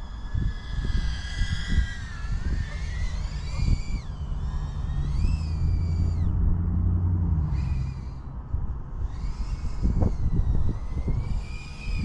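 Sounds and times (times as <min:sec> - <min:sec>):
drone motors whining: 0:00.0 - 0:12.0
wind rumble on microphone: 0:00.0 - 0:12.0.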